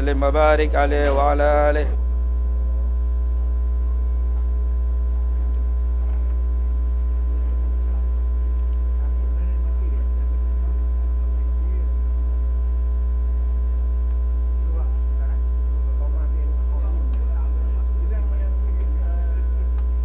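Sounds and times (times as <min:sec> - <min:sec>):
electrical mains hum: 0:00.0 - 0:20.0
faint people talking: 0:02.6 - 0:20.0.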